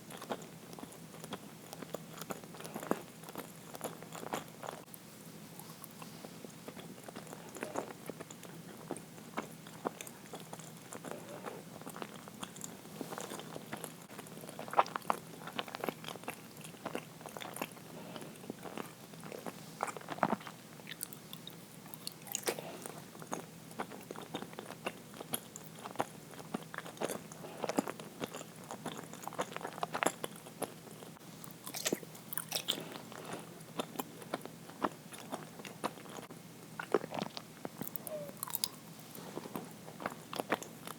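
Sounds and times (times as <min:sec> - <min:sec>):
person chewing with mouth clicks: 0:05.6 - 0:40.9.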